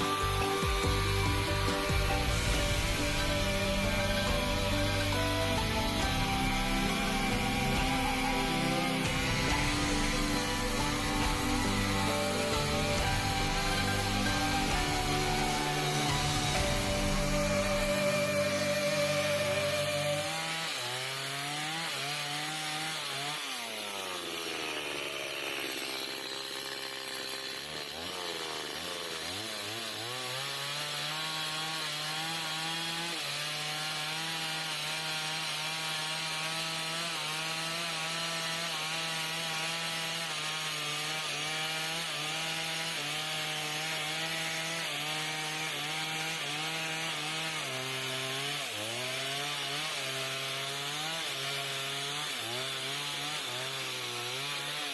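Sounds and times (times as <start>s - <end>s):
chainsaw cutting timber: 0.0s - 54.9s.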